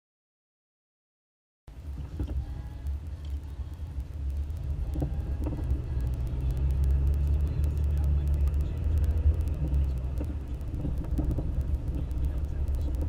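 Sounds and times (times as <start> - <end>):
engine and road noise: 1.7 - 13.0.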